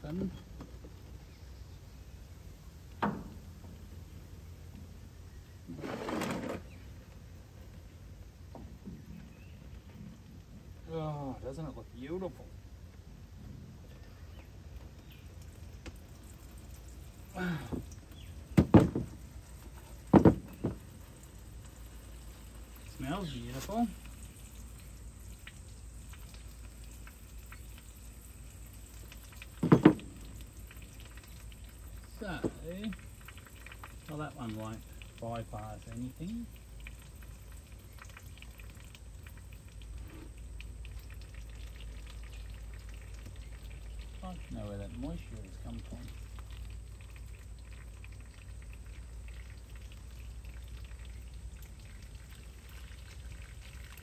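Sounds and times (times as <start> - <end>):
oil trickling into container: 0.0 - 54.0.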